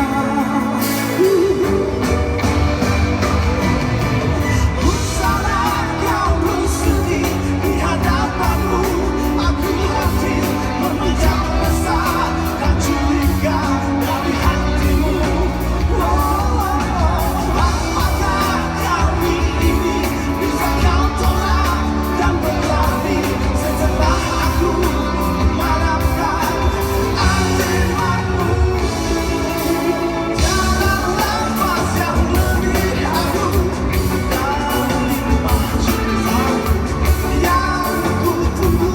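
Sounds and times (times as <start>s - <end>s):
live pop-rock band: 0.0s - 38.9s
person singing: 0.0s - 38.9s.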